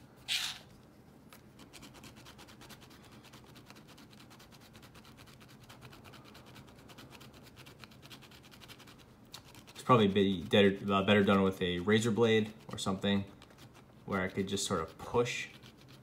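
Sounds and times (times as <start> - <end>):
rapid scratching on plastic: 1.5 - 16.0.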